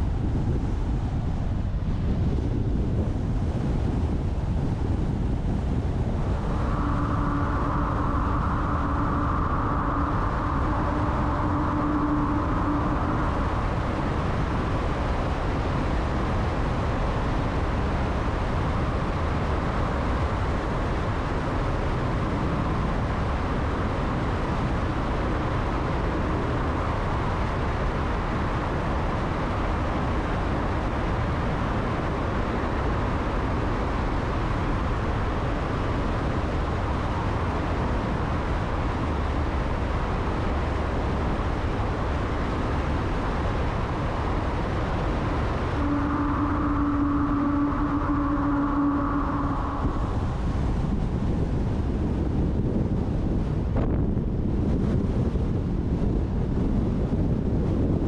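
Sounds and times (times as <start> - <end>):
car tyre road noise: 0.0 - 58.0
steady whine: 0.0 - 58.0.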